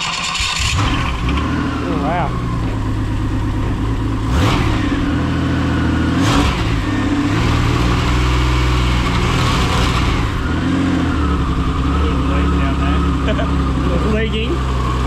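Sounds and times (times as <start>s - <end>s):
engine running and revving: 0.0s - 15.0s.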